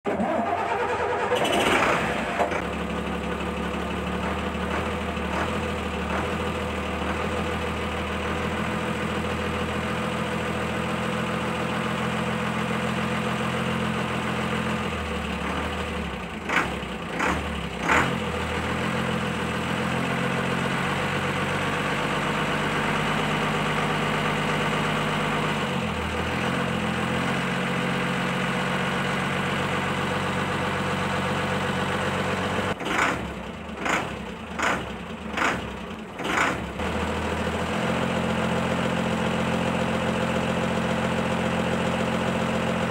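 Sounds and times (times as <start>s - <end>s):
truck engine idling: 0.1s - 42.9s.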